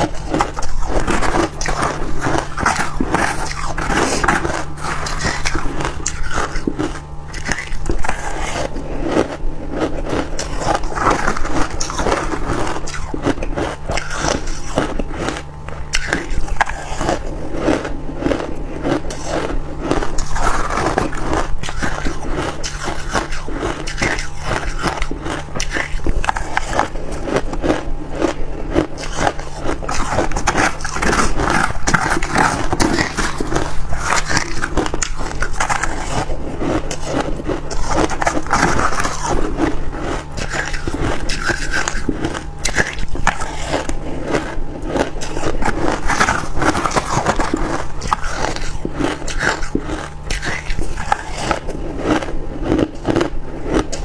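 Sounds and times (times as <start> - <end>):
crunching of frost being chewed: 0.0 - 54.0
steady low hum: 0.0 - 54.0.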